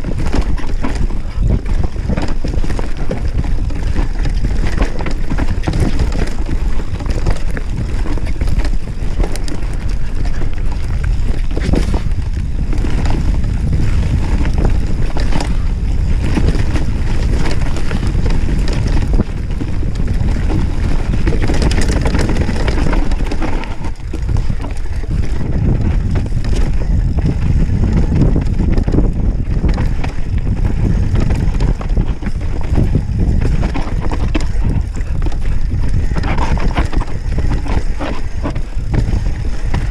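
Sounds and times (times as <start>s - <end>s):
bike knocks and rattles: 0.0s - 39.9s
tyres rolling over dirt: 0.0s - 39.9s
wind rush on microphone: 0.0s - 39.9s.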